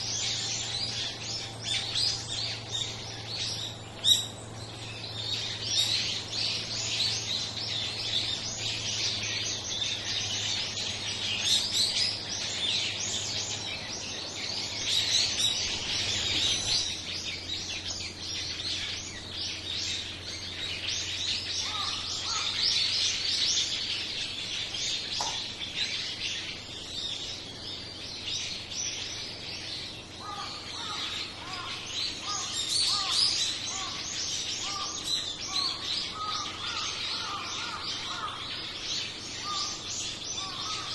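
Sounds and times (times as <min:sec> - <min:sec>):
lower bird call: 0:00.0 - 0:40.9
small birds chirping and twittering: 0:00.0 - 0:40.9.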